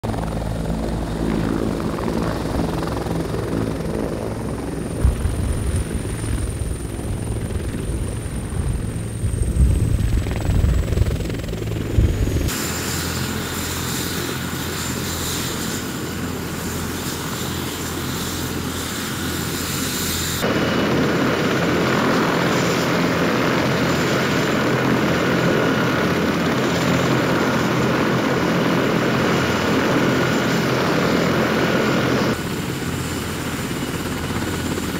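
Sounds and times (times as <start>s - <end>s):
helicopter rotor beat: 0.0s - 34.9s
turbine whine: 0.0s - 34.9s.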